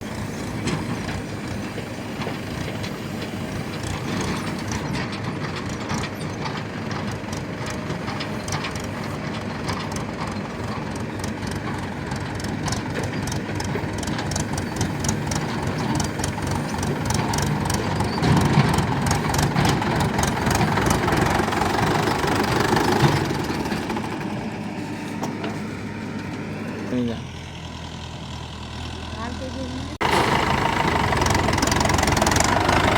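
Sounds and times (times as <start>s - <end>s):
diesel machinery running: 0.0s - 32.9s
rapid mechanical clatter: 0.1s - 24.5s, 30.0s - 32.9s.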